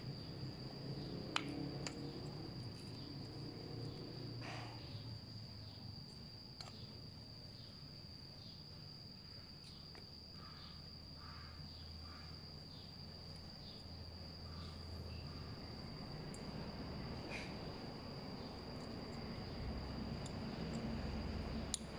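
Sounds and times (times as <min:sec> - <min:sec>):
high-pitched insect trill: 0:00.0 - 0:21.9.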